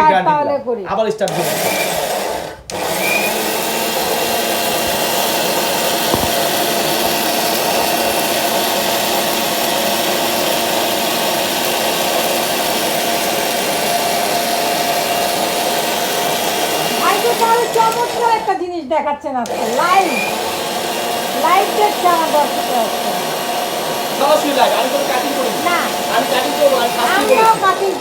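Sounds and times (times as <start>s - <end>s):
blender grinding lentils: 1.2s - 18.6s, 19.5s - 28.0s.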